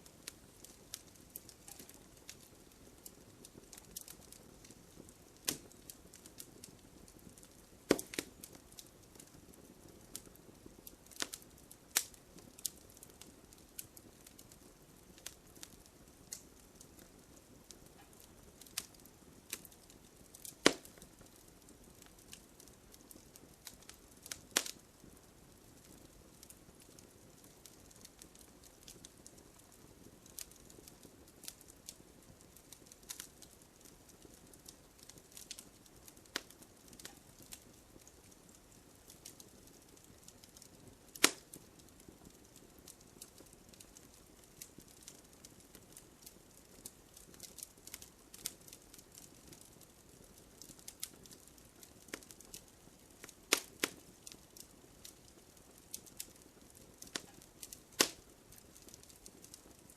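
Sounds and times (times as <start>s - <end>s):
campfire crackling and popping: 0.0s - 59.9s
soft low hiss: 0.0s - 59.9s.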